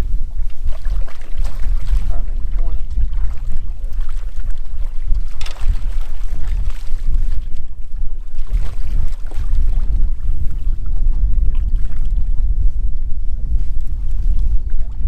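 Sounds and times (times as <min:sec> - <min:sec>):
boat engine low rumble: 0:00.0 - 0:15.0
wind on microphone: 0:00.0 - 0:15.0.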